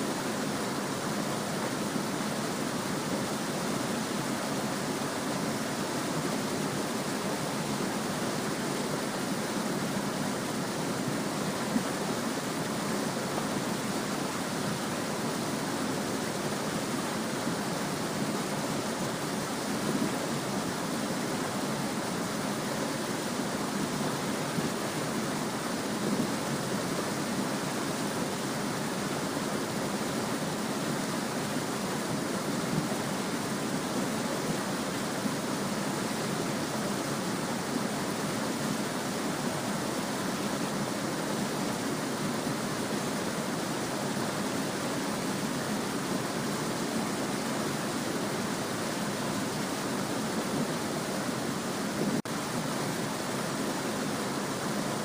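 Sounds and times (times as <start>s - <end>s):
small stream babbling: 0.0s - 55.0s.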